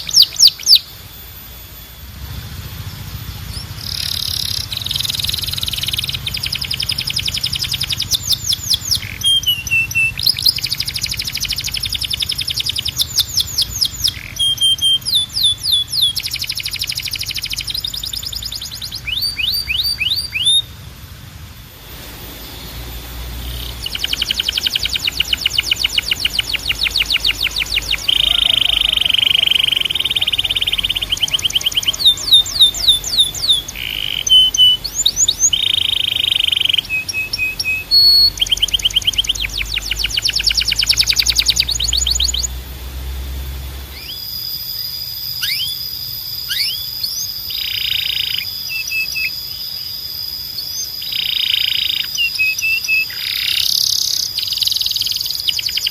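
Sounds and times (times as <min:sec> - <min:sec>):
steady high whistle: 0:00.0 - 0:20.7, 0:21.6 - 0:42.6, 0:43.8 - 0:55.9
low hum: 0:00.0 - 0:47.0
canary singing: 0:00.0 - 0:55.9.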